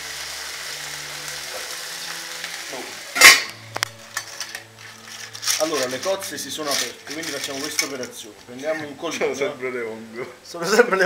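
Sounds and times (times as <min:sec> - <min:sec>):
clams sizzling in oil: 0:00.0 - 0:11.0.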